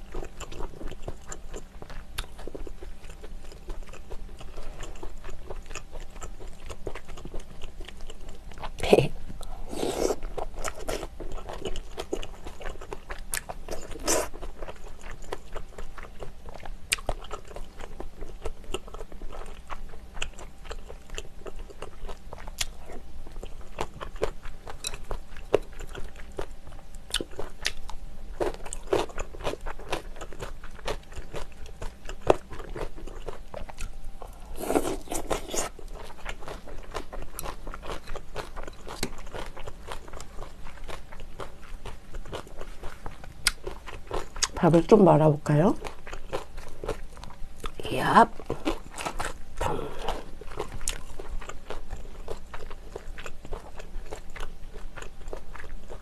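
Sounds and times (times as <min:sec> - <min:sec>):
chewing and crunching: 0:00.0 - 0:56.0
steady low hum: 0:00.0 - 0:56.0.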